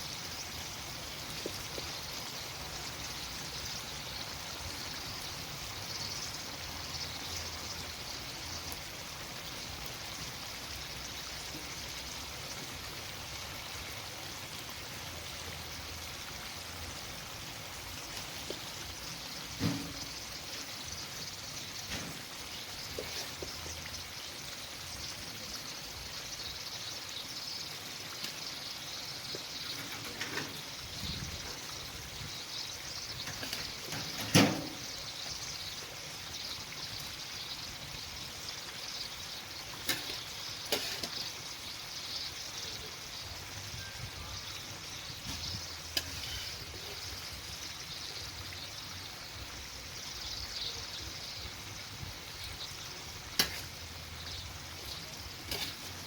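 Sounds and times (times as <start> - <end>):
oil and food sizzling: 0.0 - 56.0.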